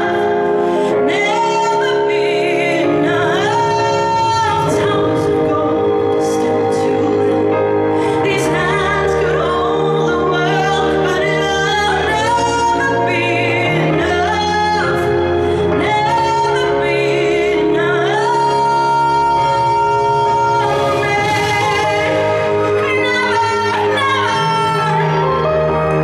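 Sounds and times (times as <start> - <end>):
instrumental backing music: 0.0 - 26.0
woman singing a ballad: 0.0 - 26.0.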